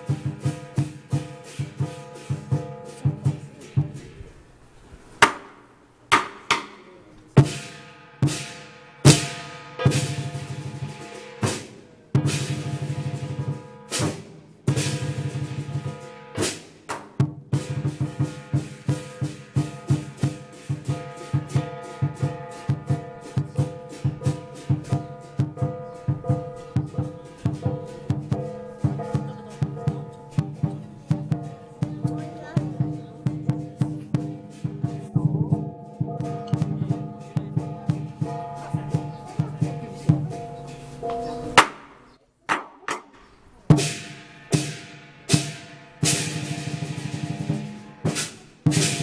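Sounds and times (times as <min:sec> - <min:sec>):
cymbals clashing: 0:00.0 - 0:42.2, 0:43.2 - 0:49.0
big drum beating: 0:00.0 - 0:42.8, 0:43.4 - 0:49.0.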